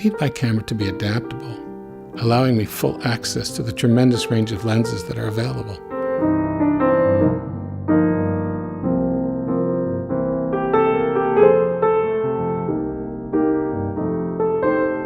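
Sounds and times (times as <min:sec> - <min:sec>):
slow piano notes: 0:00.0 - 0:15.0.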